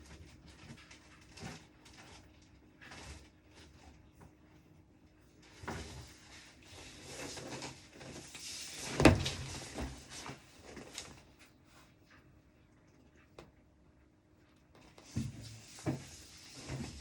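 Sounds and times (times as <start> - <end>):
rustling and handling noises: 0.0 - 13.6, 14.5 - 17.0.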